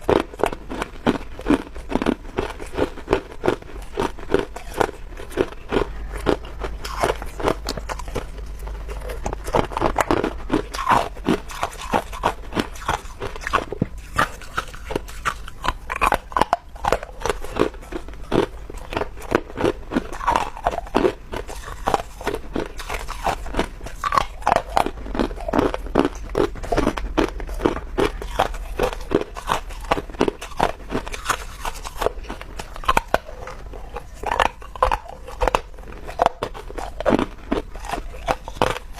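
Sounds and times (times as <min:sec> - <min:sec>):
ice being chewed with crunches: 0:00.0 - 0:38.9
low steady hum: 0:00.0 - 0:38.9.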